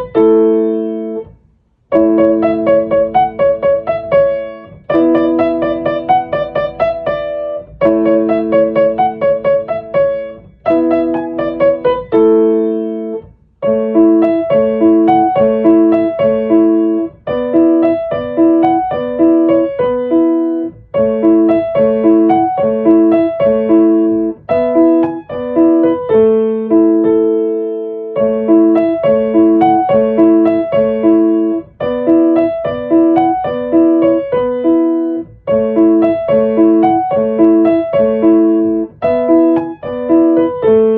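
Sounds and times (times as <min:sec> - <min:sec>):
solo piano music: 0:00.0 - 0:40.9.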